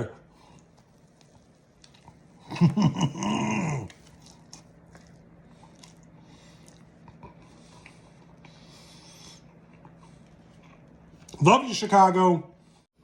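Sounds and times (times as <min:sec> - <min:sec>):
faint steady hum: 0:00.0 - 0:13.0
person chewing: 0:00.3 - 0:11.4.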